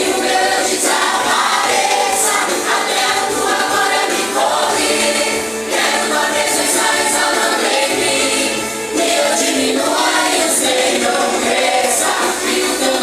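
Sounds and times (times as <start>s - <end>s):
band accompaniment: 0.0s - 13.0s
group of voices singing: 0.0s - 13.0s.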